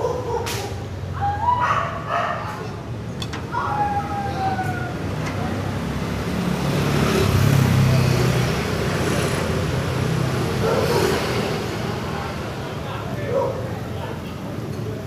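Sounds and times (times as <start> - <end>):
street din: 0.0 - 15.0.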